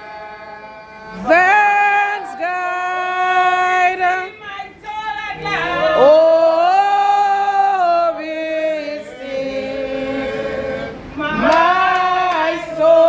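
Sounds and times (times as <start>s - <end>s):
unaccompanied hymn singing: 0.0s - 13.0s.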